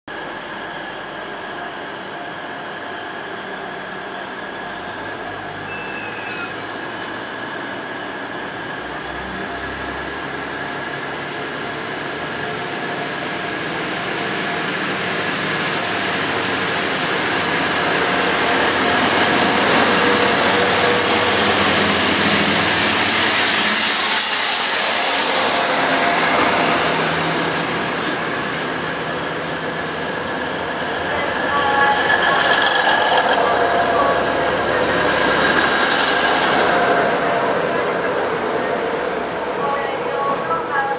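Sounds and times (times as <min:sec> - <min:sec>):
diesel train engines working hard: 0:00.1 - 0:40.9.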